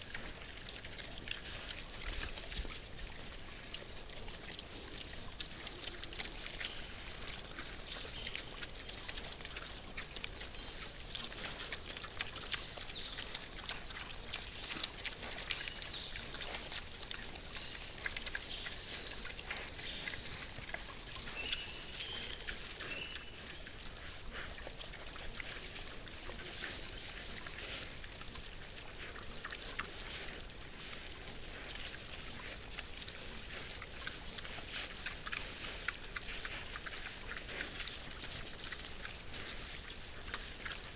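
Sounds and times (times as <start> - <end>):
wild boars crunching while feeding: 0.0 - 40.9.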